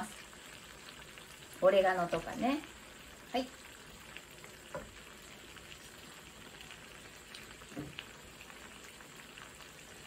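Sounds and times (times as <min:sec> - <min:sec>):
sauce sizzling and bubbling in a pan: 0:00.0 - 0:10.0
small crackles and pops: 0:00.0 - 0:10.0.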